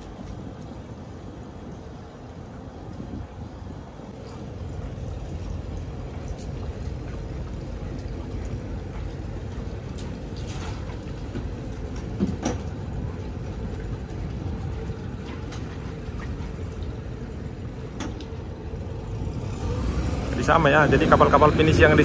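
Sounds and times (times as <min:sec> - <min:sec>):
steady low rumble: 0:00.0 - 0:22.0
water washing around hulls: 0:00.0 - 0:22.0.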